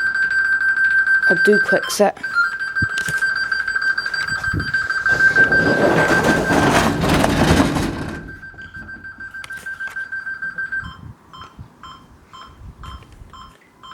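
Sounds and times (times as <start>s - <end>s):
alarm exit tone beeping: 0.0s - 13.9s.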